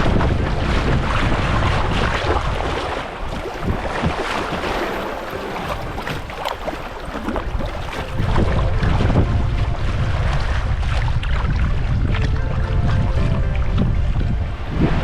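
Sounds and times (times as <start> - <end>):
water splashing and rushing: 0.0 - 15.0
wind buffeting microphone: 0.0 - 15.0.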